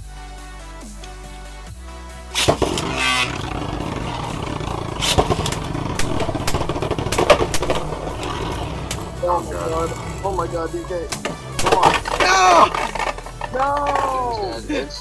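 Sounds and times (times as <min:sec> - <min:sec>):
spinning tops launched with rip: 0:02.3 - 0:14.6
spinning tops whirring: 0:02.3 - 0:14.7
spinning tops clacking: 0:02.4 - 0:14.7.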